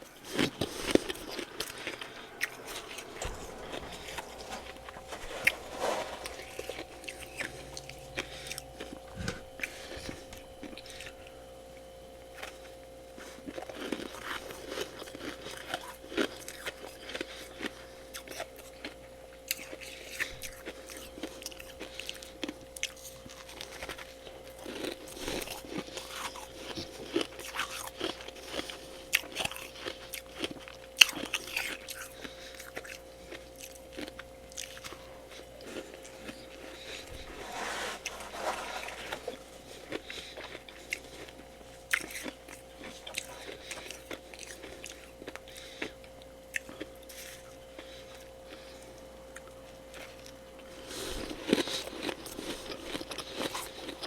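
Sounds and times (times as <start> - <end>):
chewing and crunching frost: 0.0 - 54.0
faint background hum: 0.0 - 54.0.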